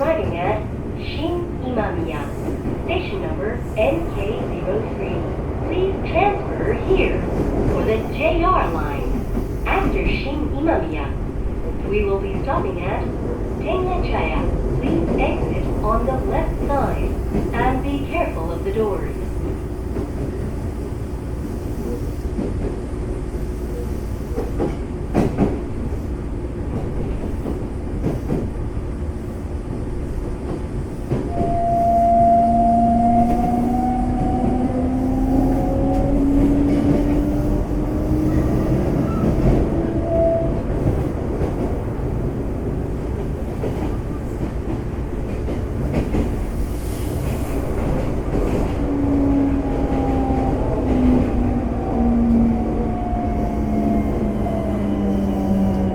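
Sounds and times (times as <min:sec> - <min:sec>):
train car running rumble: 0:00.0 - 0:55.9.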